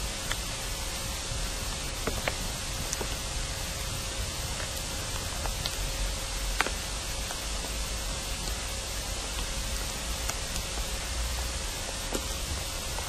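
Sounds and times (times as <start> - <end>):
faint hum: 0.0 - 13.0
steady hiss: 0.0 - 13.0.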